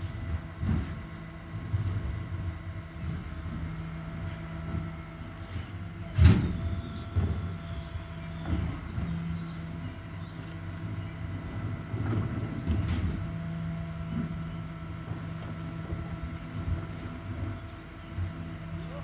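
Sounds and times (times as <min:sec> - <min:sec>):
garbage truck engine running: 0:00.0 - 0:19.0.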